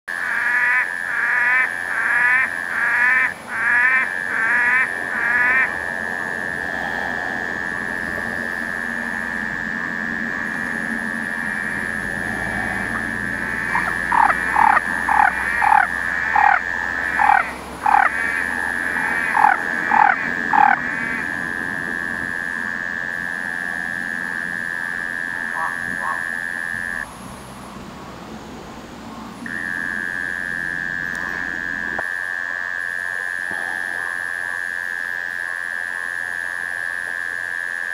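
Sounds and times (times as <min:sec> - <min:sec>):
steady high-pitched drone: 0:00.1 - 0:27.7, 0:29.2 - 0:37.9
frogs calling: 0:00.1 - 0:28.0, 0:29.0 - 0:37.9.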